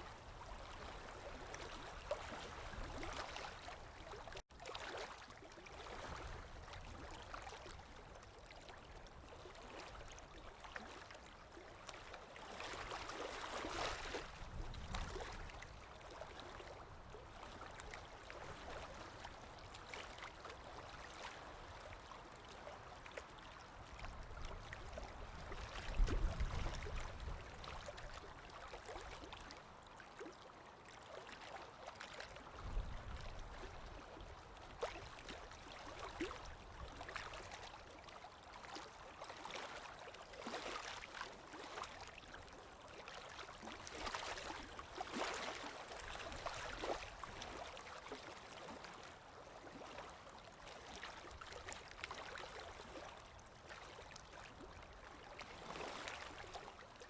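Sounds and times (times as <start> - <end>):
stream water gurgling: 0.0 - 57.0.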